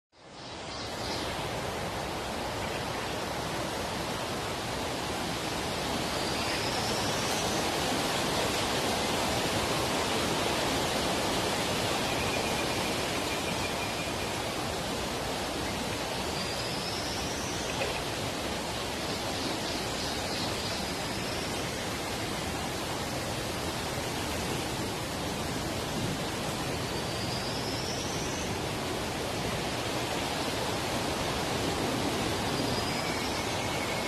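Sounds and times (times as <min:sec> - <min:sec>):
flowing water rushing: 0:00.2 - 0:34.0.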